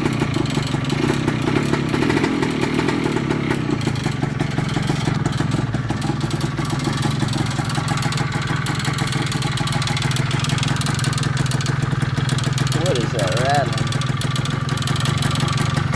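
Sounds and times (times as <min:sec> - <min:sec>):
motorcycle engine idling: 0:00.0 - 0:15.9
fast ticking rattle: 0:03.1 - 0:15.9.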